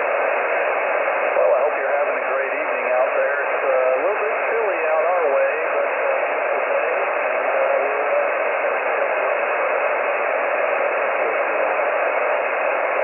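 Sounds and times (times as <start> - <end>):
radio band noise hiss: 0.0 - 13.0.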